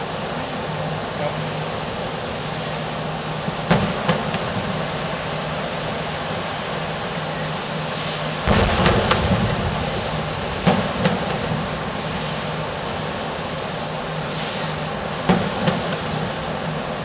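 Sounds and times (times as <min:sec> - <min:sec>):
background hum: 0:00.0 - 0:17.0
distant fireworks bursting: 0:02.4 - 0:17.0.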